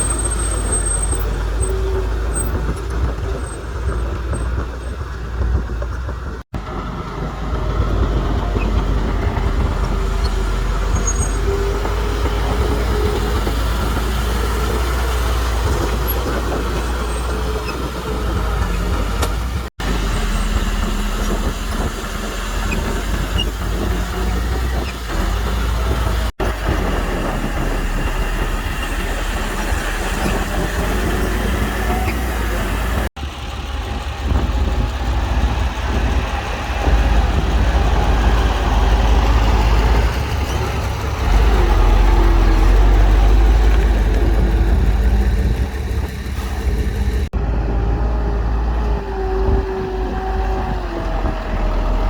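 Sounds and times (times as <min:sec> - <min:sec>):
heavy diesel machinery rumble: 0:00.0 - 0:52.0.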